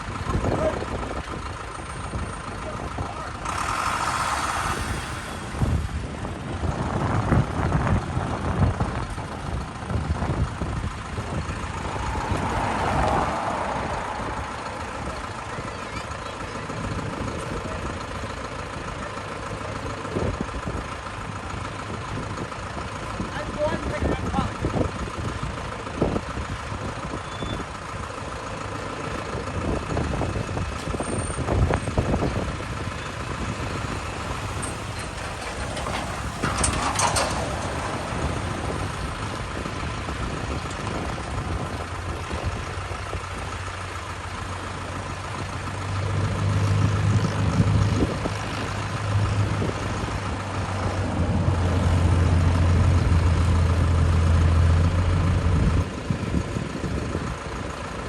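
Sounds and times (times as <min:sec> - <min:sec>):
tractor engines running: 0:00.0 - 0:58.0.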